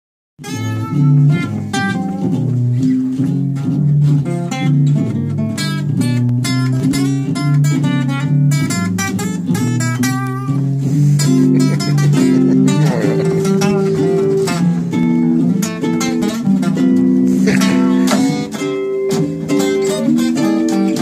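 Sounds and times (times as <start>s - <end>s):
guitars strumming and picking: 0.4s - 21.0s.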